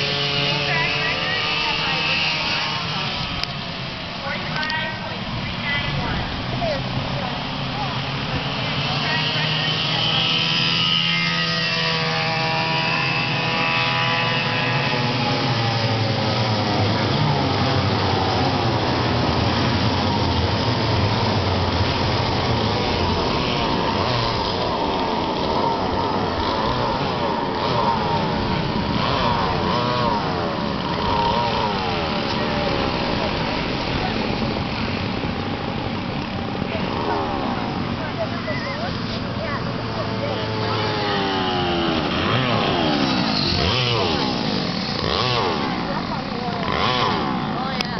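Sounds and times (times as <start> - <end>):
go-kart engines racing: 0.0 - 47.9.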